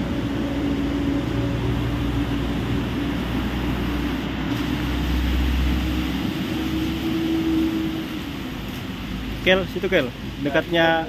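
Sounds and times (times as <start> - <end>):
excavator engine drone: 0.0 - 10.4.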